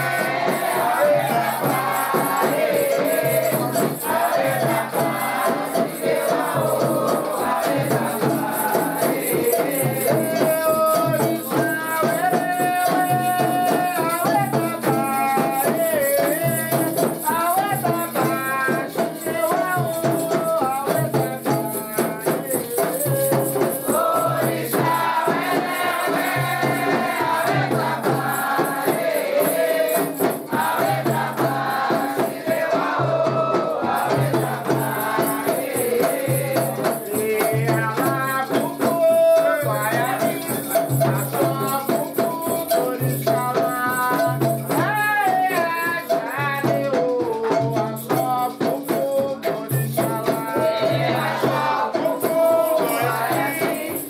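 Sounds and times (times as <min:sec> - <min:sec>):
rattles shaken: 0:00.0 - 0:33.0, 0:33.7 - 0:54.0
voices singing a chant: 0:00.0 - 0:54.0.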